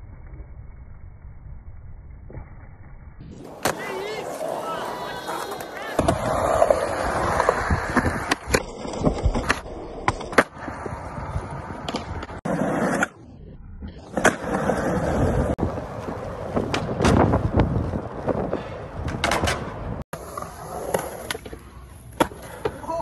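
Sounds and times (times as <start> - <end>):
skateboard wheels rolling on concrete: 0.1 - 23.0.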